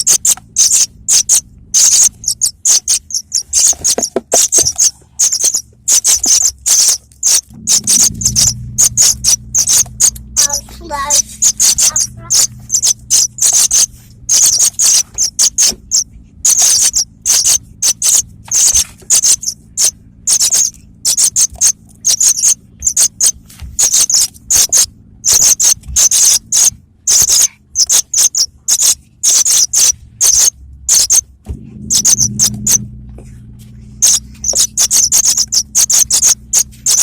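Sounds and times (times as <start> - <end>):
bird chirping high: 0.0 - 37.0
faint low hum: 0.0 - 37.0.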